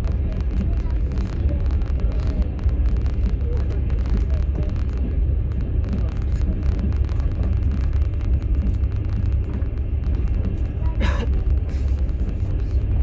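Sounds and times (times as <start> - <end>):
faint rattles and clicks: 0.0 - 13.0
train rumble from inside carriage: 0.0 - 13.0.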